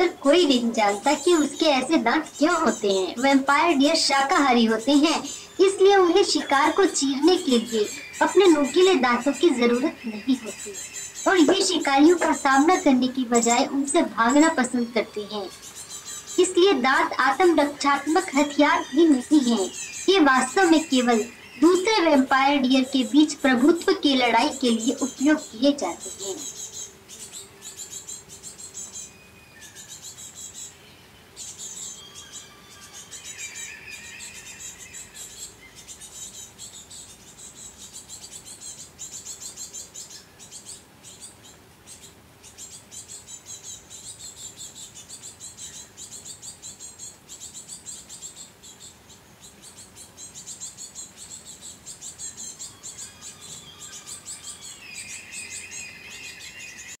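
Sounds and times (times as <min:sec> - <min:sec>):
high-pitched insect trill: 0:00.0 - 0:30.8, 0:31.4 - 0:57.0
birds chirping: 0:00.0 - 0:57.0.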